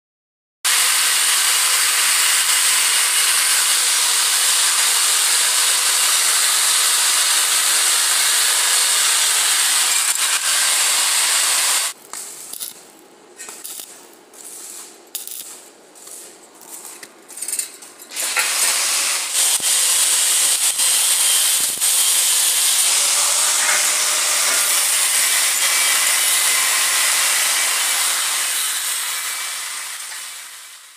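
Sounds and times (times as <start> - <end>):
welding arc hissing and crackling: 0.7 - 17.6, 18.2 - 30.9.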